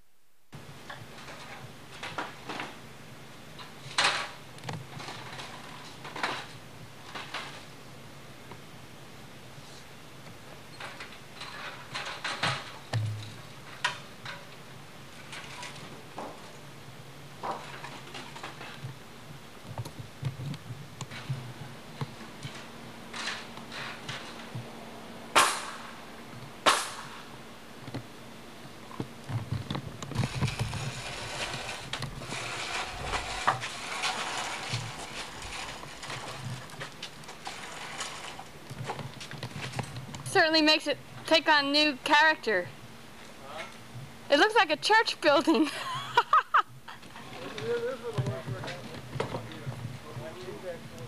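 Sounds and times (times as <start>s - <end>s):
background hum: 0.0s - 51.0s.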